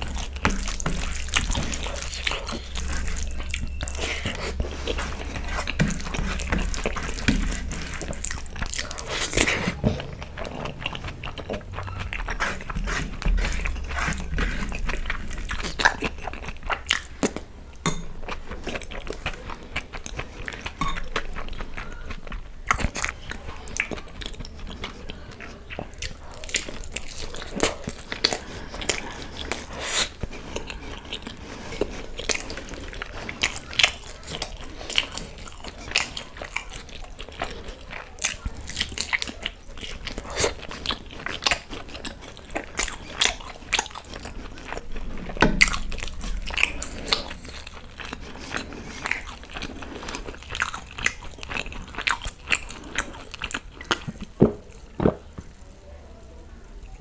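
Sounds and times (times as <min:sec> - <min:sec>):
biting and chewing with lip smacks: 0:00.0 - 0:55.6.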